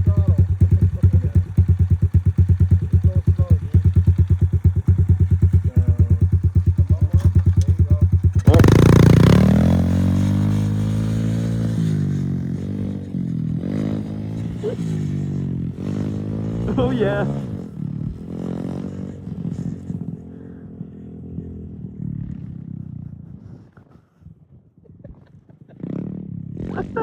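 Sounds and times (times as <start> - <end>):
dirt bike engine: 0.0 - 23.6, 25.8 - 27.0.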